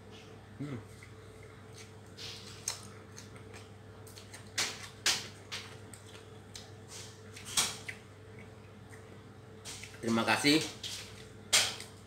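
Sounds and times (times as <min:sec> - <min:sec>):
steady low hum: 0:00.0 - 0:12.0
person chewing: 0:00.2 - 0:10.0.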